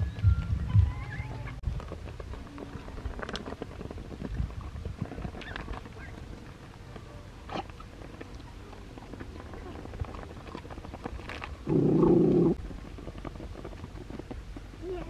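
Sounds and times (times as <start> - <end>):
rustling: 1.2 - 15.0.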